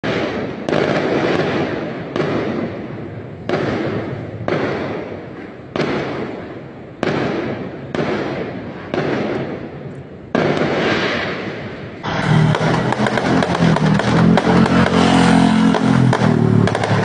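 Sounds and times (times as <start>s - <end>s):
fireworks bangs echoing: 0.0s - 17.0s.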